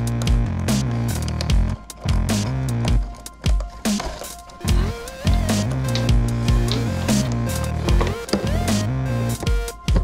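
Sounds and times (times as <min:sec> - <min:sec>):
bass line: 0:00.0 - 0:03.0, 0:04.6 - 0:09.7
steady drum beat: 0:00.0 - 0:10.0.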